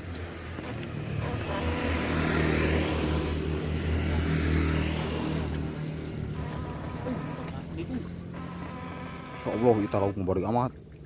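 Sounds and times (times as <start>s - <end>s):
vehicle engine hum passing: 0.0s - 11.0s.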